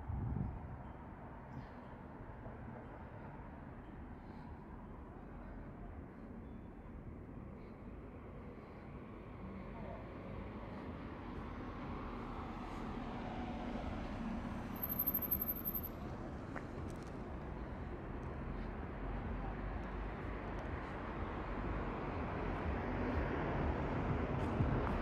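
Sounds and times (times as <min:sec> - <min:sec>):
passing cars hum: 0:00.1 - 0:25.0.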